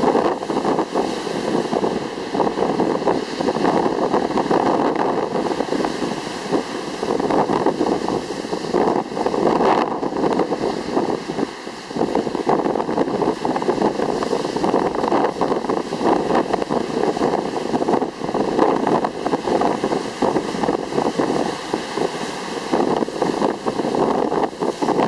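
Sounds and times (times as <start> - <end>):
waves washing onto stony beach: 0.0 - 25.0
wind buffeting microphone: 0.0 - 25.0.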